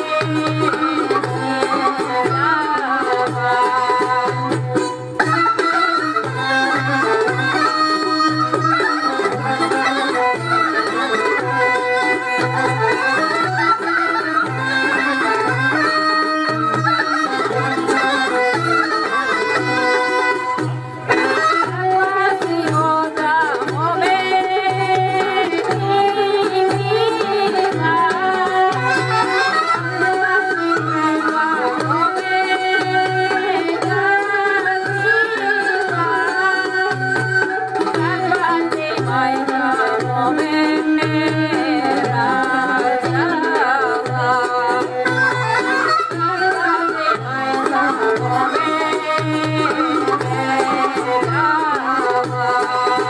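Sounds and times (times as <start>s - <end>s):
folk dance band: 0.0s - 53.0s.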